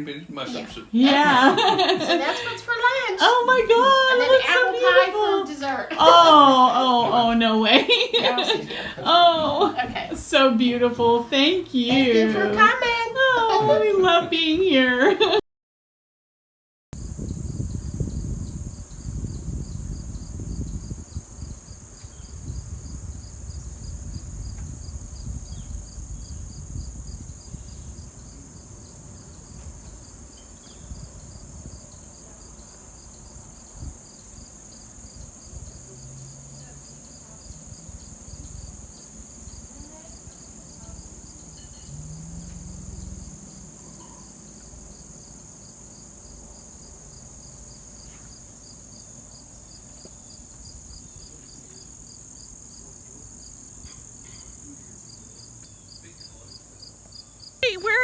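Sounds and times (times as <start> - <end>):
insects chorus: 0.0 - 15.4, 17.0 - 58.0.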